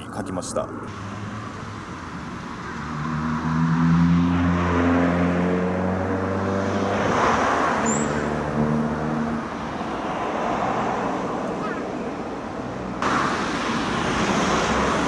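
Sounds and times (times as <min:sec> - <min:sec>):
car passing: 0:00.9 - 0:15.0.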